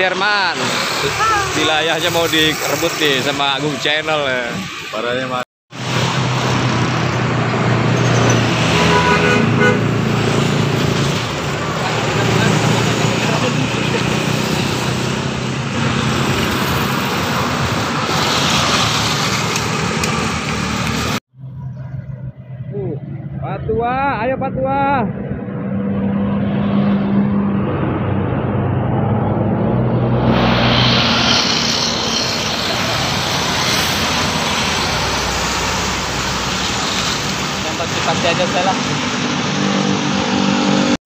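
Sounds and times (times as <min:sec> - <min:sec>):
bus passing by: 0:00.0 - 0:23.4, 0:25.1 - 0:41.0
engine hum: 0:05.8 - 0:41.0.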